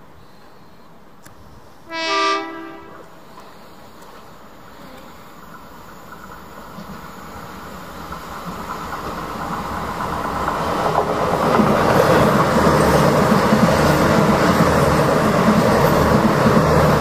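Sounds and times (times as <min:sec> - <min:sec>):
train passing on rails: 0:00.0 - 0:17.0.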